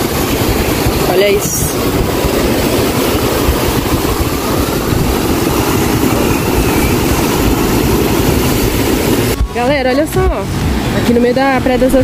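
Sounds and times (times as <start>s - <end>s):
rough sea surf: 0.0s - 12.0s
wind buffeting microphone: 0.0s - 12.0s.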